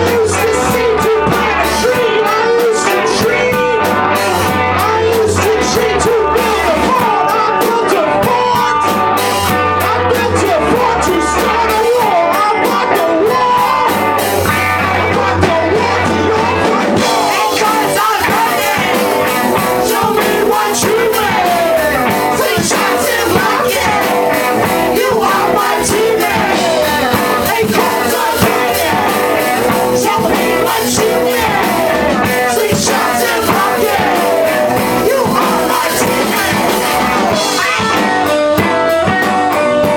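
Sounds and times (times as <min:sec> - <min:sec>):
electric guitar: 0:00.0 - 0:39.9
live rock band playing: 0:00.0 - 0:39.9
person singing: 0:00.0 - 0:39.9.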